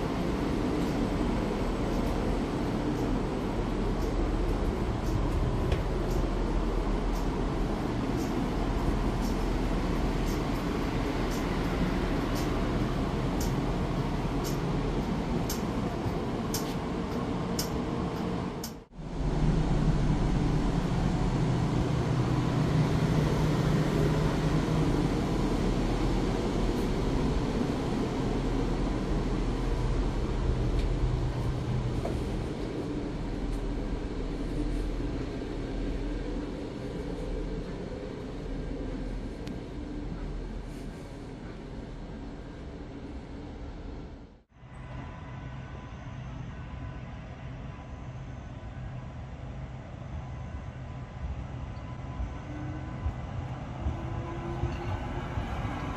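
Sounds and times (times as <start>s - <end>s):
steady low hum: 0.0s - 55.9s
tram interior rumble: 0.0s - 55.9s.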